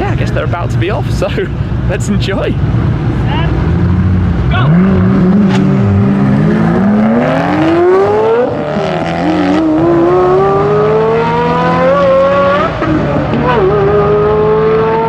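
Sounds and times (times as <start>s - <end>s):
car engines accelerating hard: 0.0s - 15.0s.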